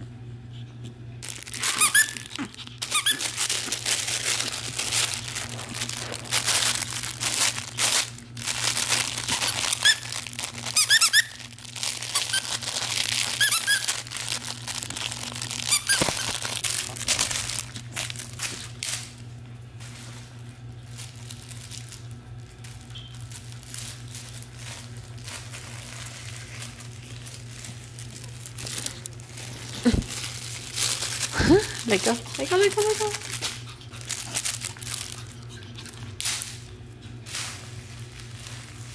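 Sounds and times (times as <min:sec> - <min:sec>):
steady low hum: 0:00.0 - 0:38.9
crinkle toy rustling: 0:01.2 - 0:38.9.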